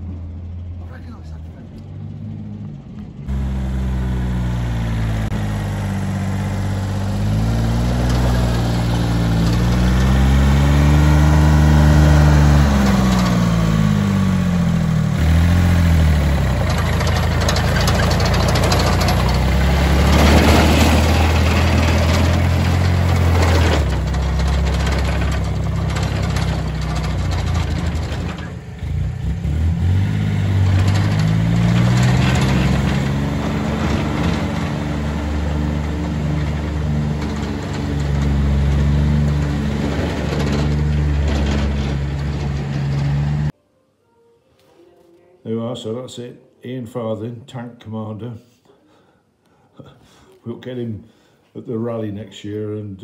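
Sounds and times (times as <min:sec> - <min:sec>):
dumper engine revving: 0:00.0 - 0:43.5.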